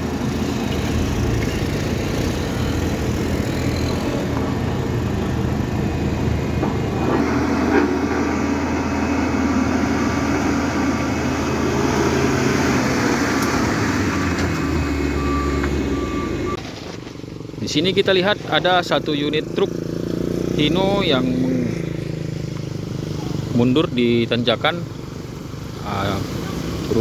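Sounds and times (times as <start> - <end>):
heavy vehicle engine running: 0.0 - 27.0
road noise: 0.0 - 27.0.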